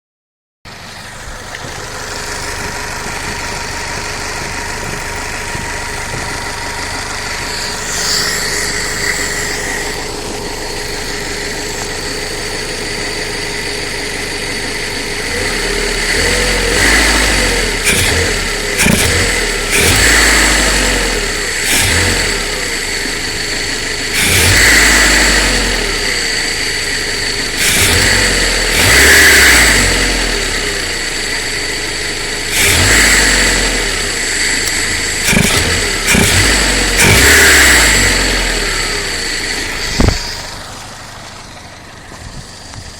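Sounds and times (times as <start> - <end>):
car engine idling with misfire: 0.7 - 42.9
car engine revving: 0.7 - 42.9.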